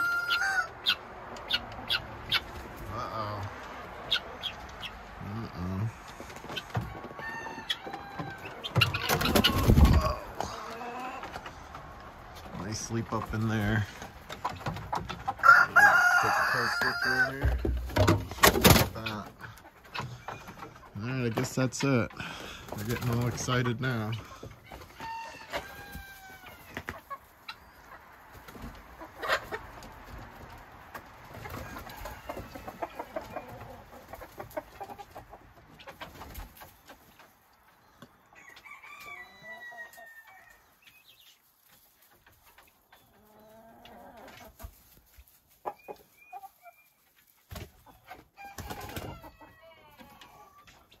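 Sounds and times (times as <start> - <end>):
chickens and guinea fowl calling: 0.0 - 51.0.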